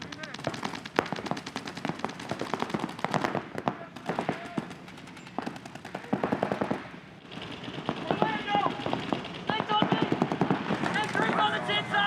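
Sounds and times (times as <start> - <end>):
paintball markers firing rapidly: 0.0 - 11.6.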